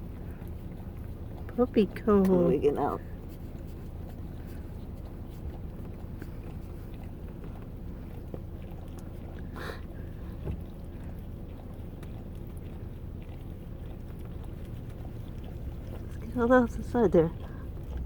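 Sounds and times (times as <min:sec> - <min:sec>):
dog licking and chewing: 0:00.0 - 0:18.0.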